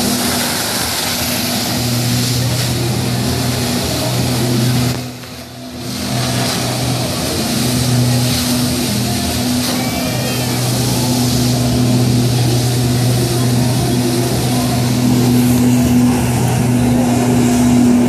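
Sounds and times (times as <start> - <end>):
water jets hissing: 0.0 - 18.0
watercraft engine at high revs: 0.0 - 18.0.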